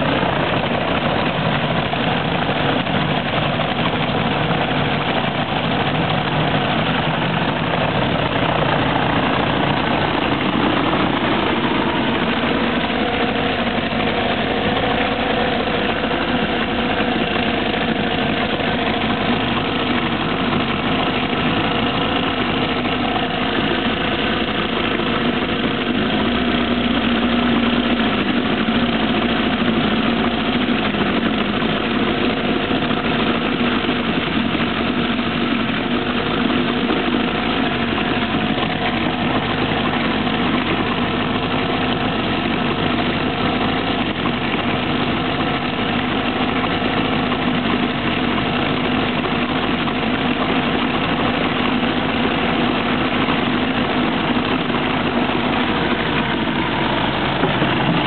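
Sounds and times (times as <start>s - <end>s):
outboard motor running: 0.0s - 58.0s.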